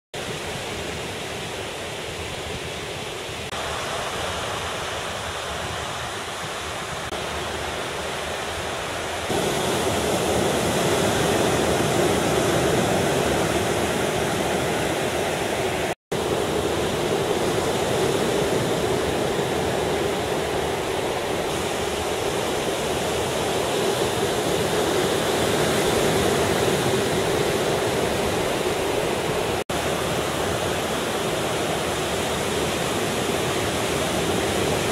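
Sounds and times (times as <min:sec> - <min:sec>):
surf breaking on beach: 0:00.2 - 0:34.9.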